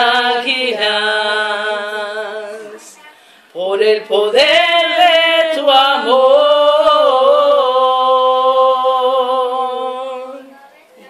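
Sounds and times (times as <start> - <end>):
women singing a cappella: 0.0 - 10.7.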